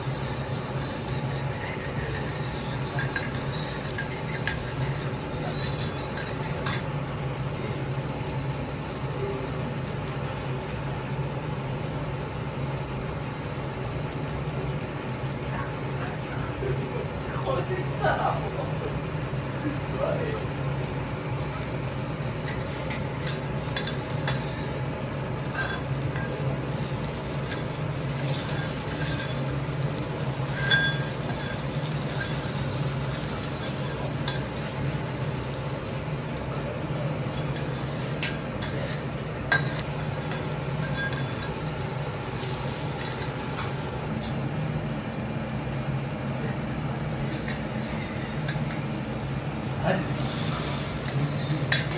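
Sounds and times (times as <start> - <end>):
low even hum: 0.0 - 51.9
steak sizzling on griddle: 0.0 - 51.9.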